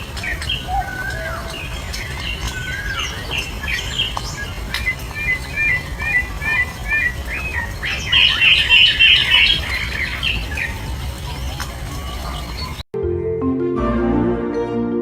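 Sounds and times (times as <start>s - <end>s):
bird chattering: 0.0s - 12.8s
bird chirping: 0.0s - 12.8s.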